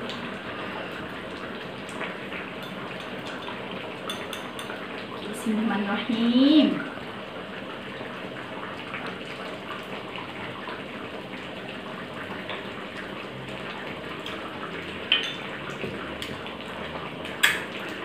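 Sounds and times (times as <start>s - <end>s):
curry bubbling and popping: 0.0s - 18.0s.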